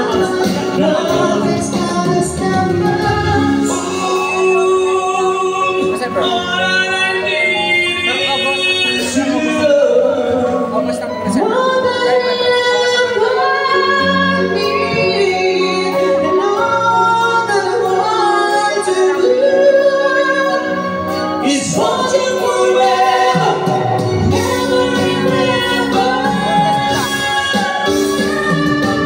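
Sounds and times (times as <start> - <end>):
backing music: 0.0 - 29.0
woman singing into microphone: 0.0 - 29.0.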